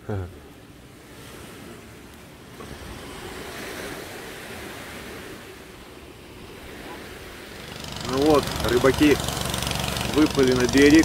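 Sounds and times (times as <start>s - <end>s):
surf washing onto beach: 0.9s - 11.0s.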